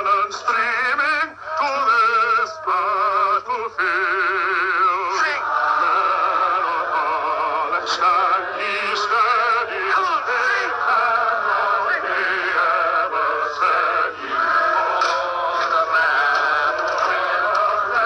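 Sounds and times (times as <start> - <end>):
person singing with vibrato: 0.0 - 18.0.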